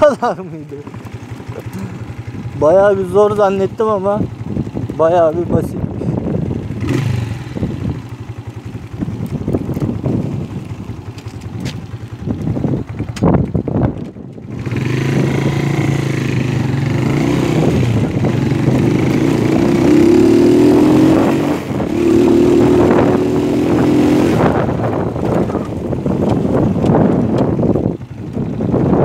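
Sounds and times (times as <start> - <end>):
motorcycle engine revving: 0.0 - 29.0
wind noise on microphone: 4.1 - 29.0.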